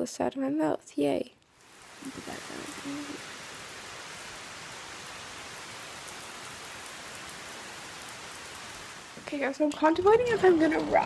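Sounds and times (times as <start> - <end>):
rain falling on wooden deck: 1.4 - 11.0.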